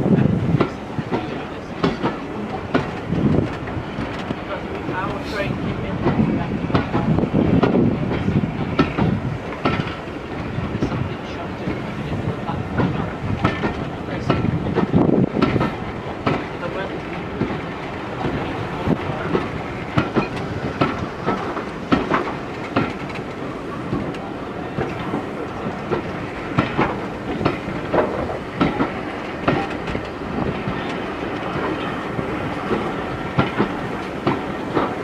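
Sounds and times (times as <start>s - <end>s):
train rumbling on track: 0.0s - 35.0s
wheels clicking over rail joints: 0.0s - 35.0s.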